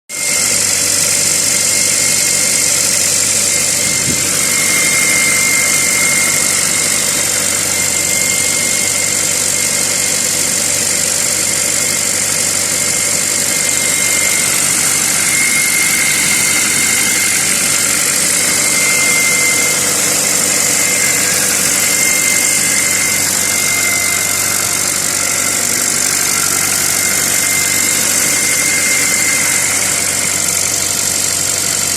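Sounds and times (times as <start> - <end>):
high-pitched whistle: 0.1 - 31.9
car engine idling: 0.2 - 31.9.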